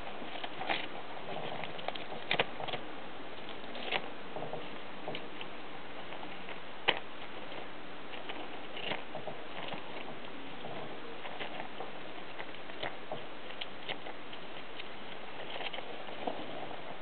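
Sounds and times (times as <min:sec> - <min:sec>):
hamster gnawing cardboard tube: 0:00.0 - 0:17.0.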